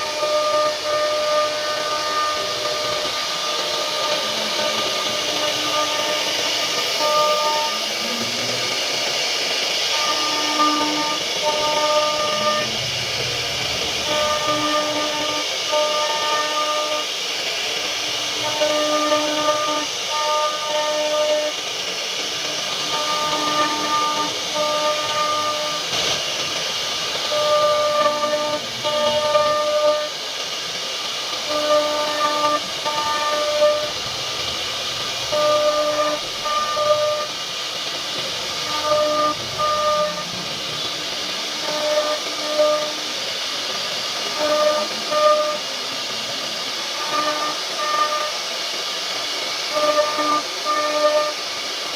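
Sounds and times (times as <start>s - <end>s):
machine whining tone: 0.0s - 51.9s
router carving wood hiss: 0.0s - 51.9s.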